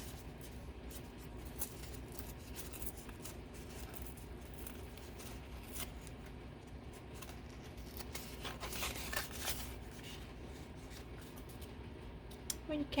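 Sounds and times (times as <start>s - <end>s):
paper rustling and scraping: 0.0s - 11.8s.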